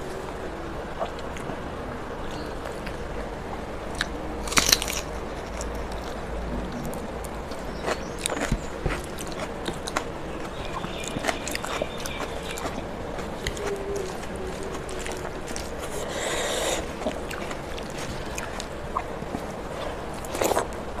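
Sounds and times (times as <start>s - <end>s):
person chewing with wet clicks: 0.9s - 1.6s, 2.2s - 21.0s.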